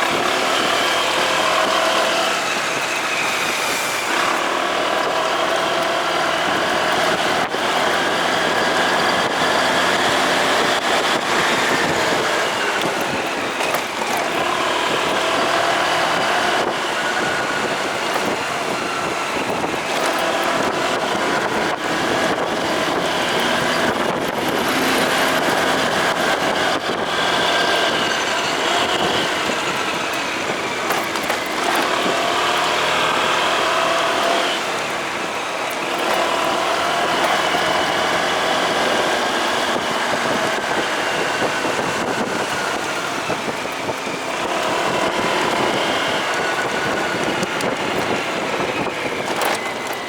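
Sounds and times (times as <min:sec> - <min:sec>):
motorcycle engine running: 0:00.0 - 0:50.0
road and wind noise: 0:00.0 - 0:50.0.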